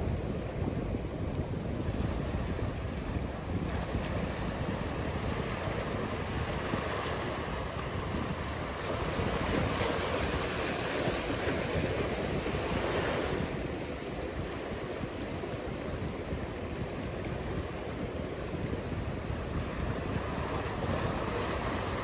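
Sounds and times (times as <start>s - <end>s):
ocean surf washing: 0.0s - 22.0s
wind buffeting microphone: 0.0s - 22.0s.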